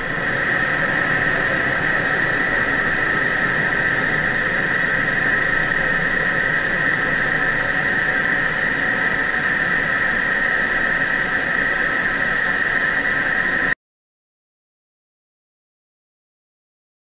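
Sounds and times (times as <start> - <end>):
jet cockpit air and engine rush: 0.0 - 13.8.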